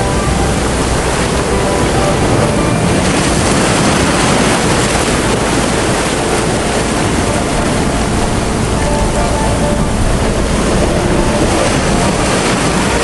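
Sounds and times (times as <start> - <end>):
floodwater rushing: 0.0 - 13.0
heavy rain: 0.0 - 13.0.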